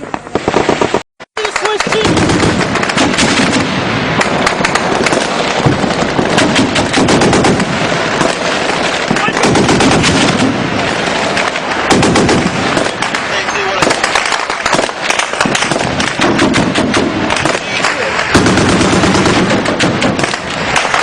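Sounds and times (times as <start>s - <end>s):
automatic gunfire: 0.2s - 21.0s.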